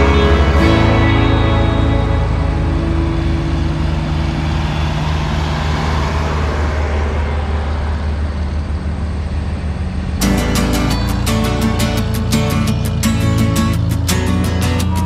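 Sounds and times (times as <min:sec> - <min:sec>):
tractor engines driving past: 0:00.0 - 0:15.0.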